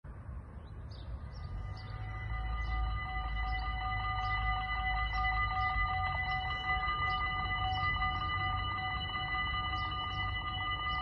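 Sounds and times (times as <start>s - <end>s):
steady low rumble: 0.1s - 11.0s
level crossing warning bells: 1.3s - 11.0s.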